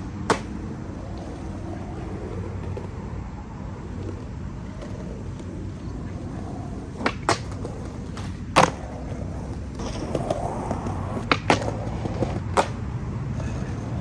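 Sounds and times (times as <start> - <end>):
skateboard clacks: 0.0 - 14.0
skateboard rolling over concrete: 0.0 - 14.0.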